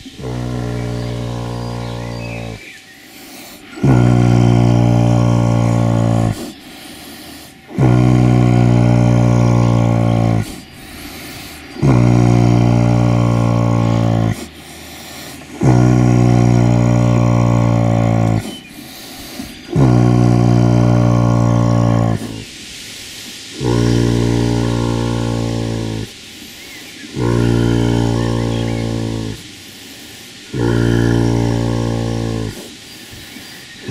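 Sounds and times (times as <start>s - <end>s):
foal snoring: 0.0s - 33.9s
quiet breathing: 0.0s - 33.9s.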